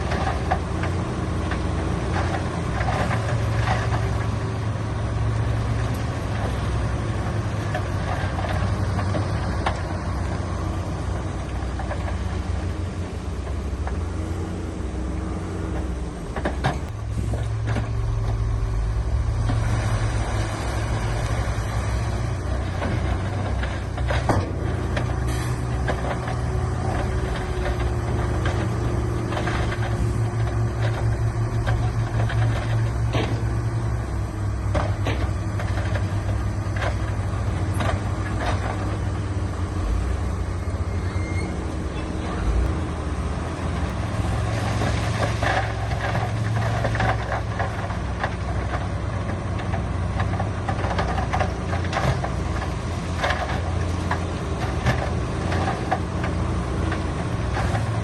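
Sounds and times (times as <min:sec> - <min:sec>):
diesel engine throbbing: 0:00.0 - 0:58.0.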